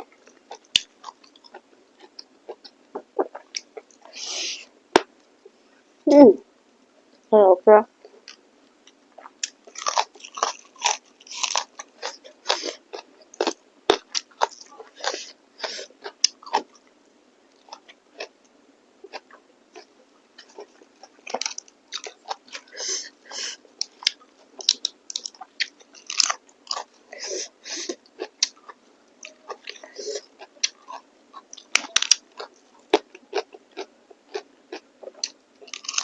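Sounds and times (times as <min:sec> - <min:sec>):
close chewing and mouth sounds: 0:00.0 - 0:05.8, 0:08.0 - 0:36.0.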